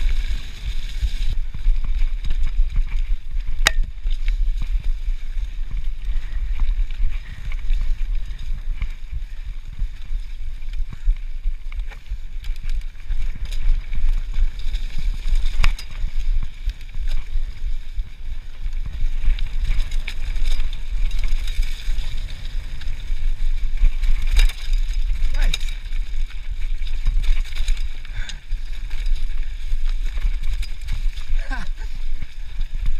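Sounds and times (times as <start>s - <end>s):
bike clicks and rattles: 0.0s - 32.9s
bike tyres rumbling on dirt: 0.0s - 32.9s
wind buffeting microphone: 0.0s - 32.9s.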